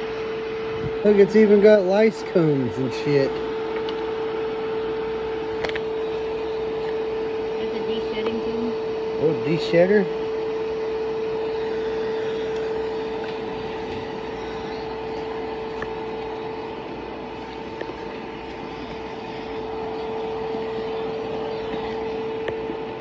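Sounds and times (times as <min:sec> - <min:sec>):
vacuum motor humming: 0:00.0 - 0:23.0.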